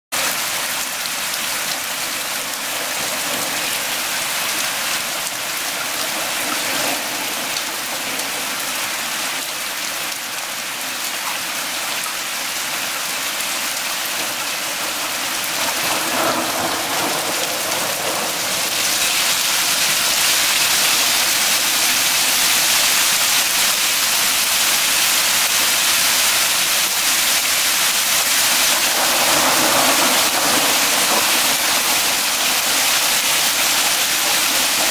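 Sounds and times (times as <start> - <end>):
hail and rain pelting a wooden deck: 0.1 - 34.9.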